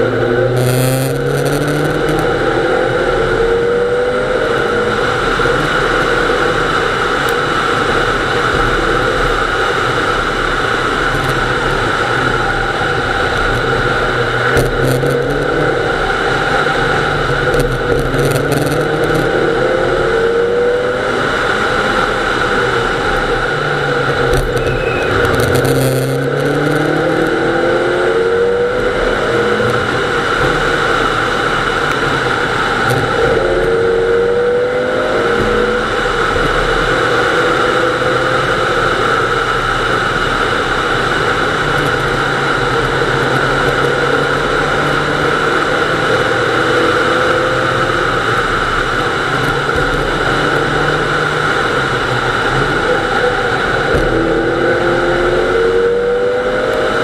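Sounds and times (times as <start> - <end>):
car engine revving hard: 0.0 - 57.0
road and wind noise: 0.0 - 57.0.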